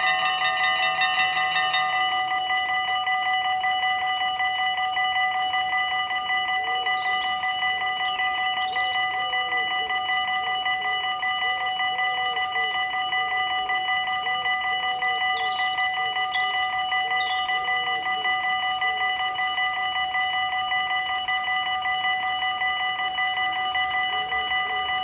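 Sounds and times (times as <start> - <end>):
level crossing warning bells: 0.0 - 25.0.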